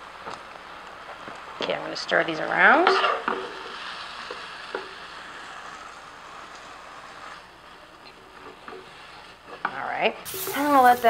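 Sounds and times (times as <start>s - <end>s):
meat sizzling in a pan: 0.0s - 9.6s, 10.2s - 11.0s.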